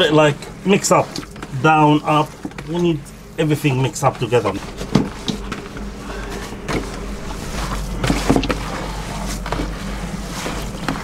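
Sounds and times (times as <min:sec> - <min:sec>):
hands squishing food mix: 0:00.0 - 0:11.0
low hum: 0:00.0 - 0:11.0.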